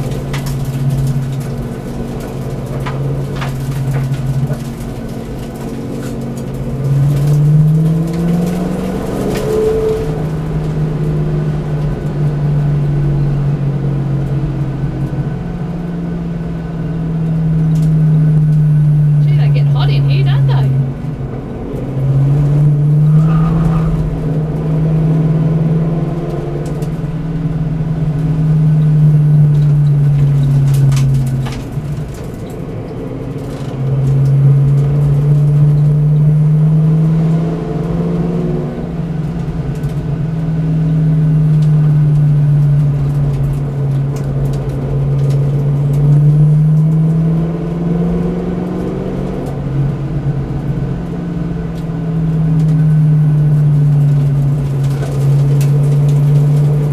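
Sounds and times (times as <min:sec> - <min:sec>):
race car engine from inside cabin: 0:00.0 - 0:56.9.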